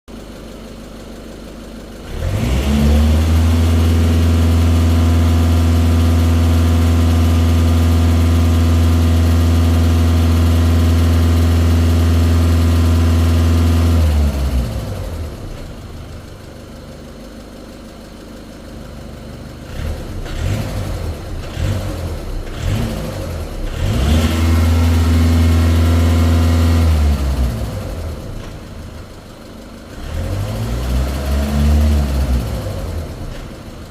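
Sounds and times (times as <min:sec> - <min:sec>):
diesel engine idling and revving: 0:00.1 - 0:33.9.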